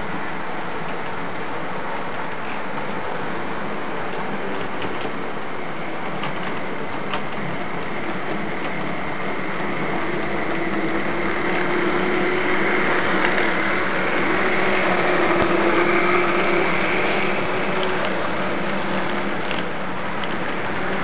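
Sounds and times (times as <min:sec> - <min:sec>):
model train motor humming: 0:00.0 - 0:21.0
wheels rumbling on track: 0:00.0 - 0:21.0.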